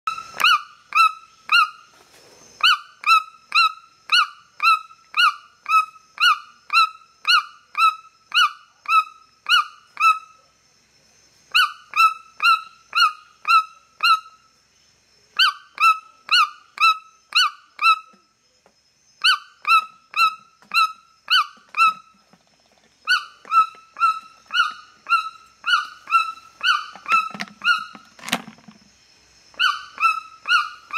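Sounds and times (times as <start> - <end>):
toucan yelping call: 0.1 - 1.8, 2.6 - 10.4, 11.5 - 14.4, 15.4 - 18.2, 19.2 - 22.4, 23.0 - 28.3, 29.5 - 30.9.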